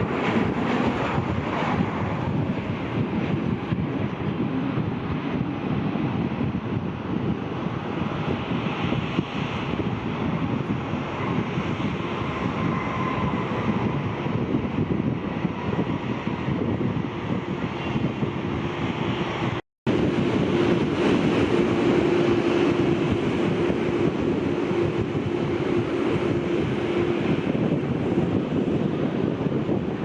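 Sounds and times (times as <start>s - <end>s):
jet engines running: 0.0s - 30.0s
wind on microphone: 0.0s - 30.0s.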